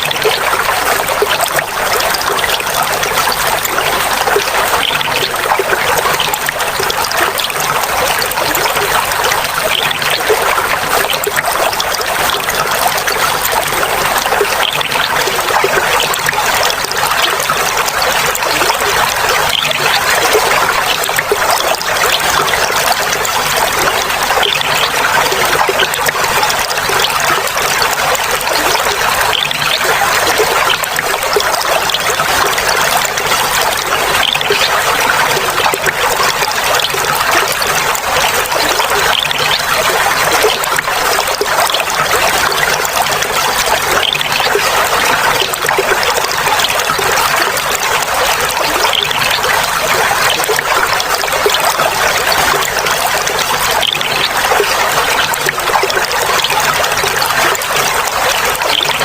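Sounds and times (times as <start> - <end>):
water trickling and babbling: 0.0 - 59.0.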